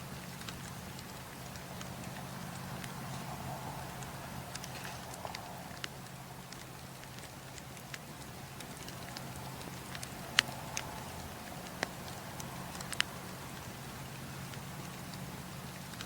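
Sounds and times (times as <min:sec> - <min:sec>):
campfire crackling and popping: 0:00.0 - 0:16.0
low hiss: 0:00.0 - 0:16.0.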